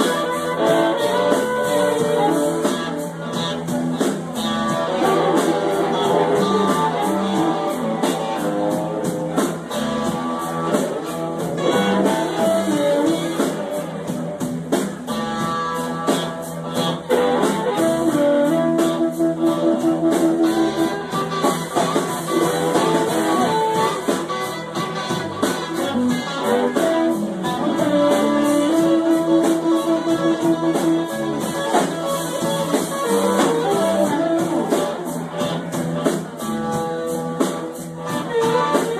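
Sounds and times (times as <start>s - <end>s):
blues band playing: 0.0s - 38.9s
guitar melody: 0.0s - 38.9s
steady drum beat: 0.0s - 38.9s.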